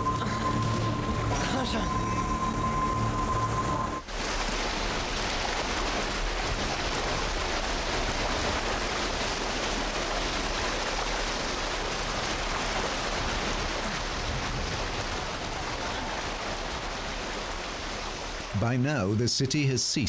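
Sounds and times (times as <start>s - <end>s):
water pouring into floodwater: 0.0s - 19.8s
heavy rain: 0.0s - 20.0s.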